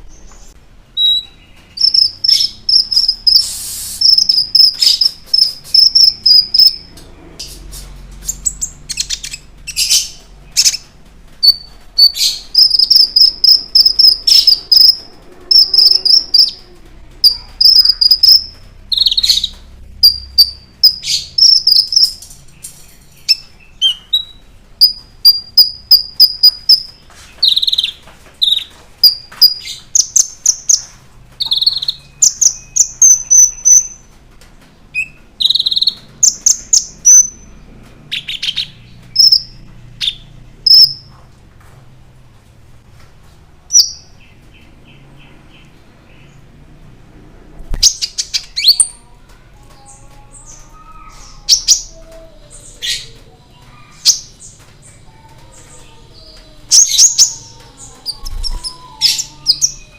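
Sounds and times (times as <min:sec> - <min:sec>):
bird chirping and trilling: 0:00.0 - 0:07.6, 0:08.2 - 0:34.2, 0:34.9 - 0:41.1, 0:43.7 - 0:46.4, 0:47.7 - 0:49.1, 0:49.8 - 0:59.9.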